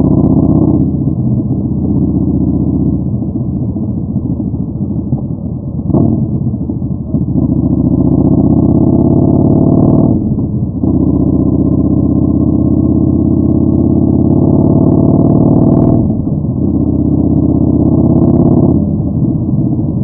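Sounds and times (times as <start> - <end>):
motorcycle engine riding: 0.0 - 20.0.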